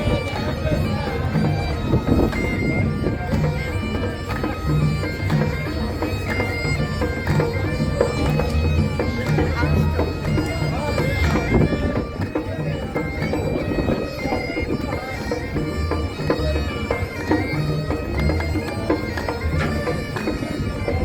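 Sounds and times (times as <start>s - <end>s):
bagpipes playing: 0.0s - 21.0s.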